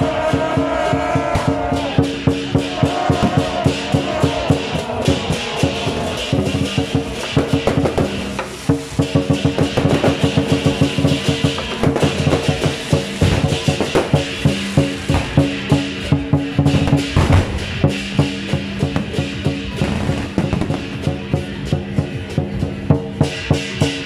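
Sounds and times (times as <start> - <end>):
fast drum and percussion beats: 0.0 - 24.0.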